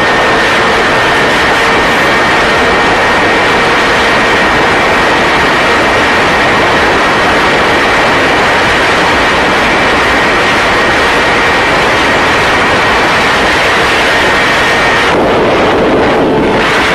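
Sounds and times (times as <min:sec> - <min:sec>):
engine roar with high whine: 0:00.0 - 0:16.9.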